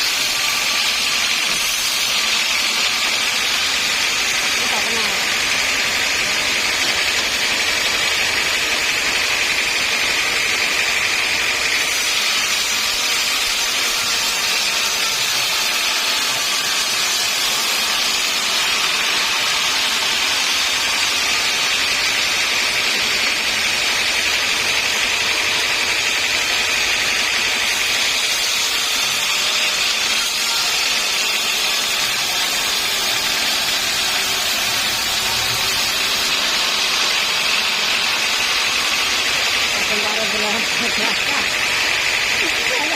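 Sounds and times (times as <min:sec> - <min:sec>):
sawmill machinery whining: 0:00.0 - 0:42.9.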